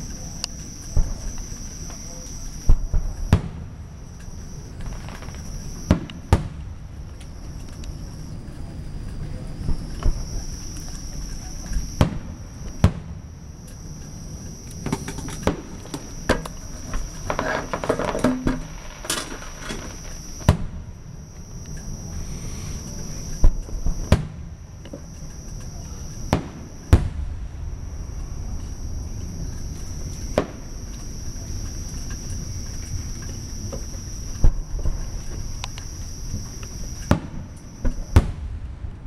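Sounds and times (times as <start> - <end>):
crickets trilling: 0.0 - 39.0
fireworks bursting: 0.0 - 39.0
fireworks crackling: 0.0 - 39.0.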